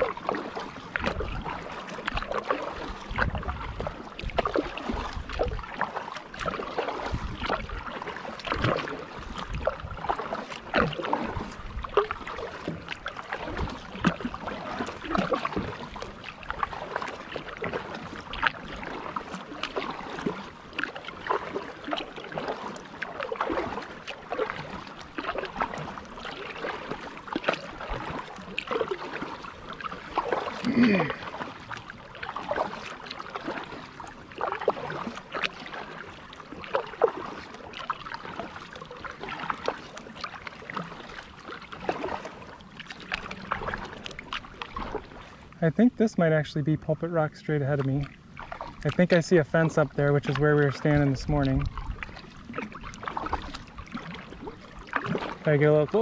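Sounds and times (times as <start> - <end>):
water dripping off paddle: 0.0 - 45.6, 47.7 - 56.0
kayak paddle strokes: 0.0 - 56.0.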